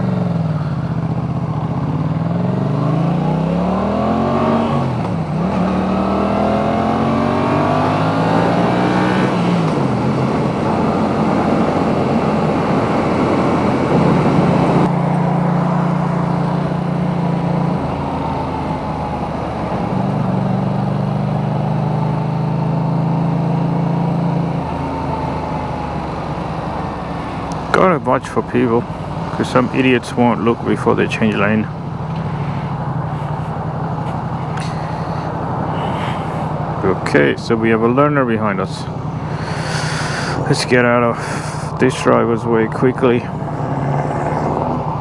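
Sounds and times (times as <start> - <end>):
motorcycle engine accelerating: 0.0 - 45.0
wind and road noise: 0.0 - 45.0.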